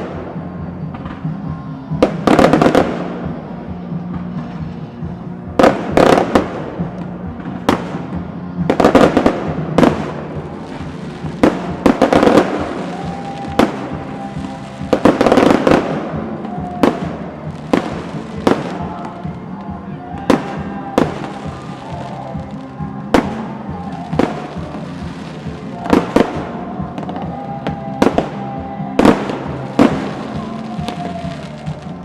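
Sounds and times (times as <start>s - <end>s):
fireworks bangs: 0.0s - 4.8s, 5.4s - 32.0s
music: 0.0s - 32.0s.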